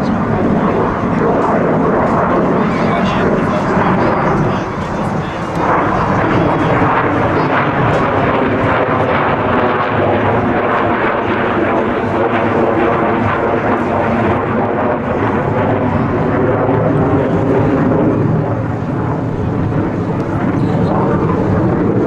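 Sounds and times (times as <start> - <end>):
loud jet engine noise: 0.0 - 22.0.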